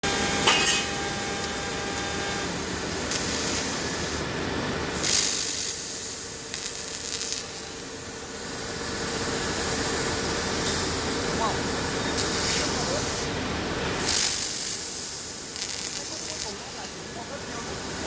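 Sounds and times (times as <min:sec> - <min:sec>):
constant machine hum: 0:00.0 - 0:18.0
laser cutting steel hiss: 0:00.1 - 0:04.3, 0:04.9 - 0:13.3, 0:13.9 - 0:18.0.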